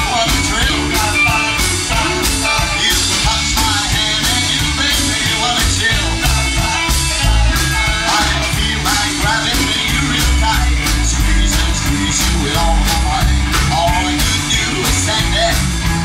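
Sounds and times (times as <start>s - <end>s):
person singing: 0.0s - 15.8s
guitar: 0.0s - 16.0s
rock and roll song: 0.0s - 16.0s
steady drum beat: 0.0s - 16.0s.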